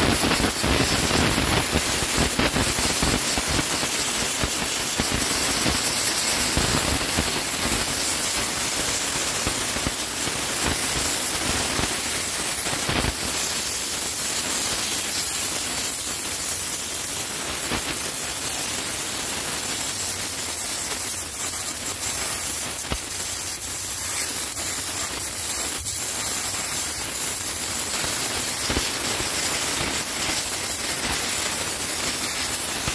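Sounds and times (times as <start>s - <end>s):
steam cleaner hissing: 0.0s - 32.9s.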